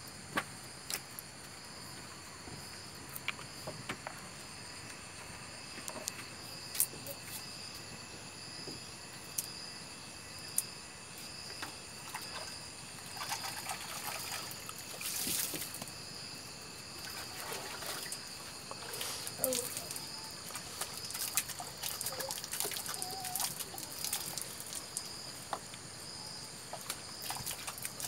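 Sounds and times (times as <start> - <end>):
night insects chirring: 0.0 - 28.0.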